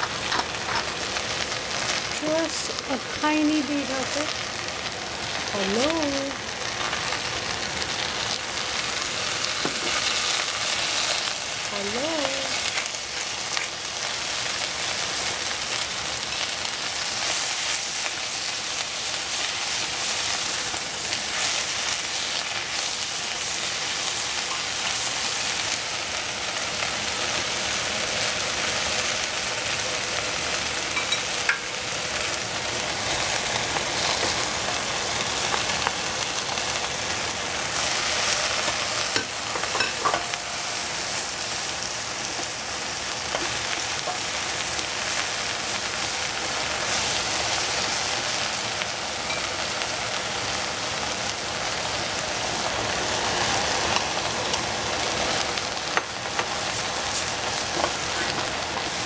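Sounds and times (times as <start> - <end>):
rice sizzling in a pan: 0.0 - 59.0.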